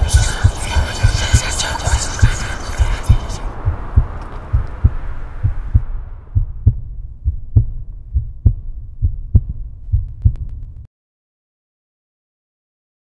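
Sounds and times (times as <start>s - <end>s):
heartbeat thumps: 0.0s - 10.9s
low rumble: 0.0s - 10.9s.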